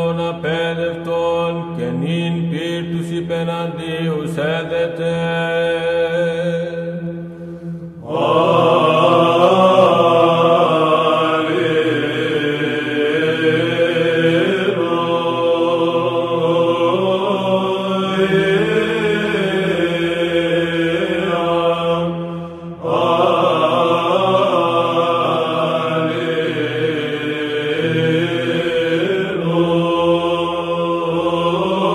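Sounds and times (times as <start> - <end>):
men's choir chanting: 0.0 - 6.6, 8.0 - 31.9
low vocal drone: 0.0 - 31.9.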